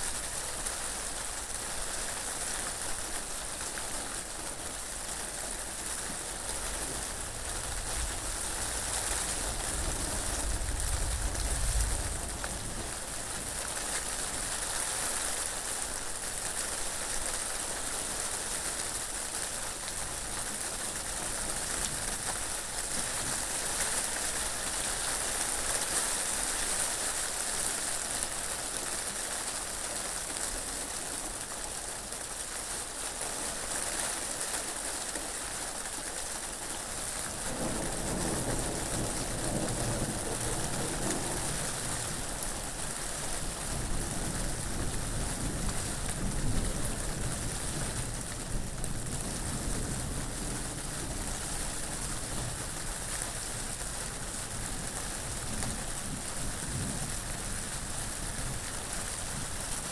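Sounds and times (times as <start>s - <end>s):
rain falling: 0.0s - 59.9s
wind: 0.0s - 59.9s.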